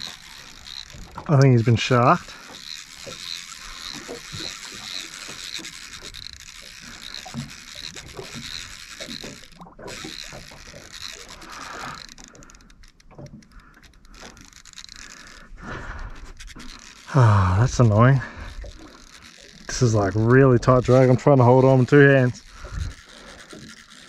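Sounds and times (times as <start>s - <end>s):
fishing reel ticking: 0.0s - 24.0s.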